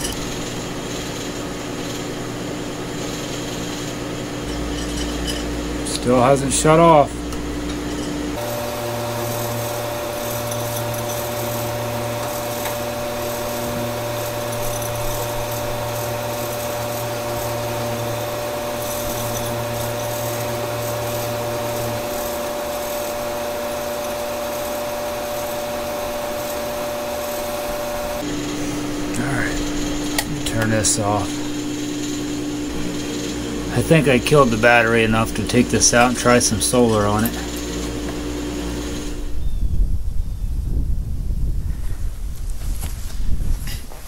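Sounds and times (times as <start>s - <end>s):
low hum: 0.0s - 23.8s, 27.6s - 44.0s
fans whirring: 0.0s - 44.0s.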